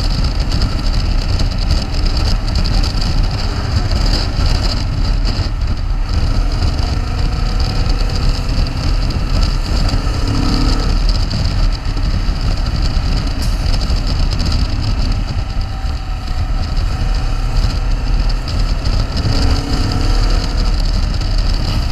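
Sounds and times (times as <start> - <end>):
motorcycle engine: 0.0 - 21.9
road noise: 0.0 - 21.9
wind buffeting microphone: 0.0 - 21.9.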